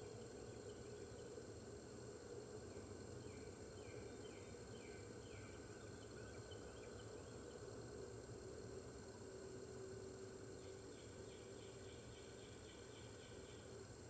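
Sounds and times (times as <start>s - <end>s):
steady hum and hiss: 0.0s - 14.0s.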